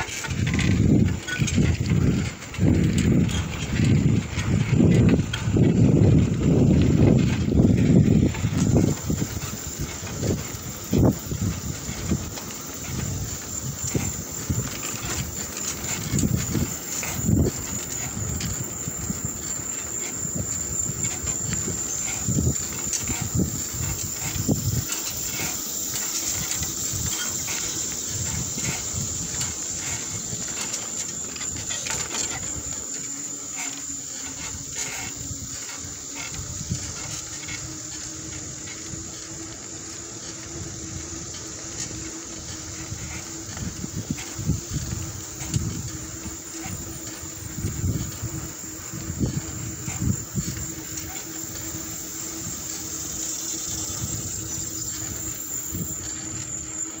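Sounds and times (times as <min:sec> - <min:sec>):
wheels rolling on asphalt: 0:00.0 - 0:57.0.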